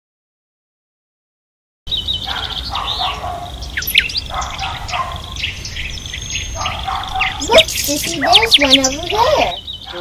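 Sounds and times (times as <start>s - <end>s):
birds singing and chirping: 1.9s - 10.0s
high bird trill: 1.9s - 10.0s.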